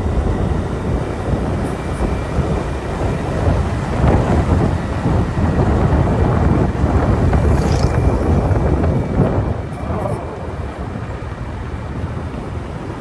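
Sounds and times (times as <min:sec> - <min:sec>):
motorbike road and engine noise: 0:00.0 - 0:13.0
wind buffeting microphone: 0:00.0 - 0:13.0.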